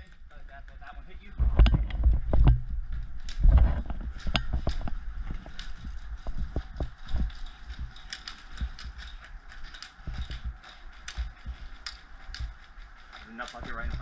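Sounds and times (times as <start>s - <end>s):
gear clicks and knocks: 0.0s - 14.0s.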